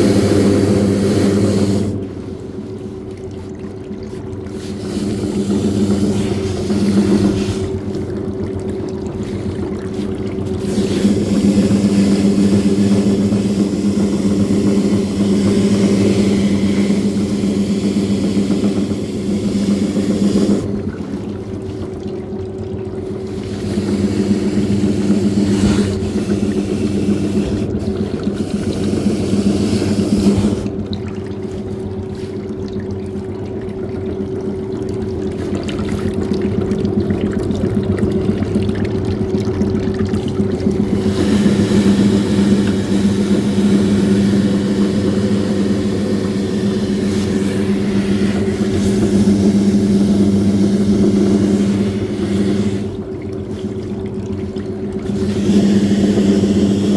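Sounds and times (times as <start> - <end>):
washing machine motor humming: 0.0 - 56.9
water churning and splashing: 0.0 - 56.9.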